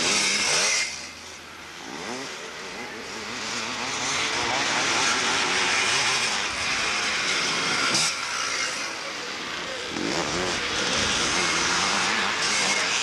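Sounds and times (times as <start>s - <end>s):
motocross motorcycles revving: 0.0s - 13.0s.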